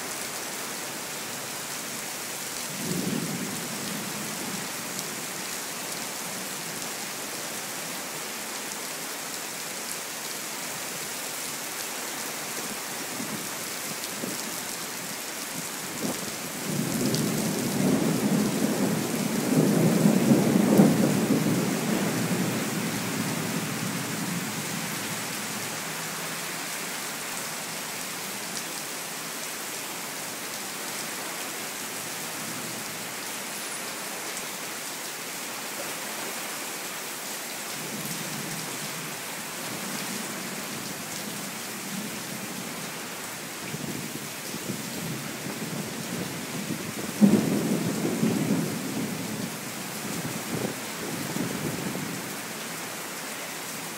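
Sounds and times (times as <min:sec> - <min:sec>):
steady rain: 0:00.0 - 0:53.9.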